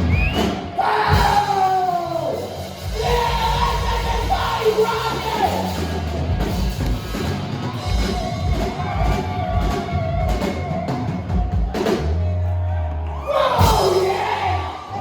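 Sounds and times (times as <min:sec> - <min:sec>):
bass guitar: 0:00.0 - 0:15.0
drums: 0:00.0 - 0:15.0.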